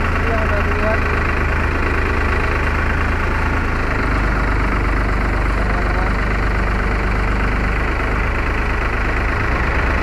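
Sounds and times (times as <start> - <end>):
truck engine humming: 0.0 - 10.0.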